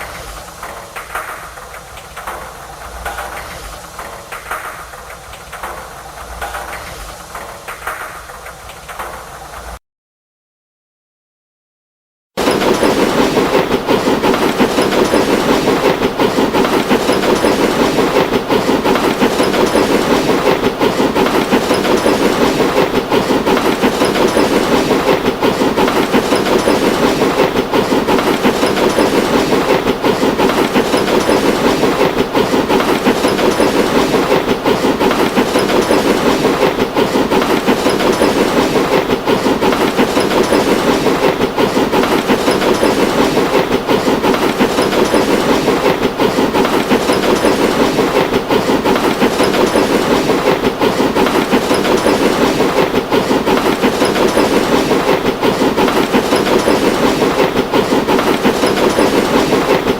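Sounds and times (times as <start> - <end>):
train wheels clacking on track: 0.0 - 9.8, 12.4 - 59.9.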